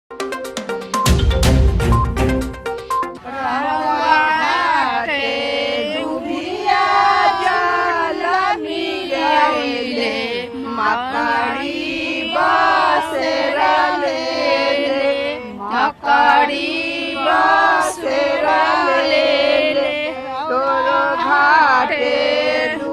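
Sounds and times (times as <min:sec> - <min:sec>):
women singing a folk song: 0:03.2 - 0:22.9.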